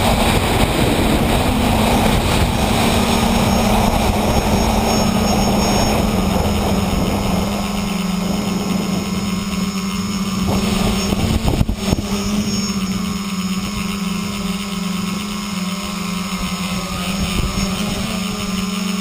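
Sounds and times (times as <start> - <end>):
drone motors buzzing: 0.0 - 19.0
wind on microphone: 0.0 - 19.0.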